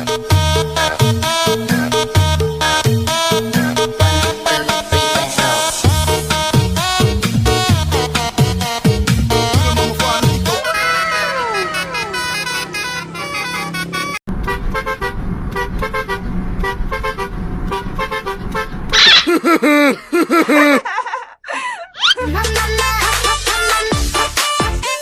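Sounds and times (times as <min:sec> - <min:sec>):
multi-tone bus horn tune: 0:00.0 - 0:18.9, 0:22.4 - 0:25.0.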